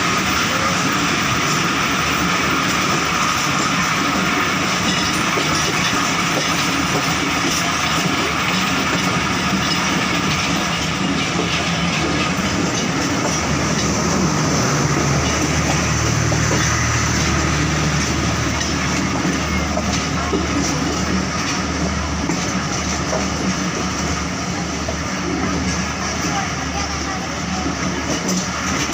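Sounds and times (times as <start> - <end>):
train wheels rolling on rails: 0.0 - 28.9.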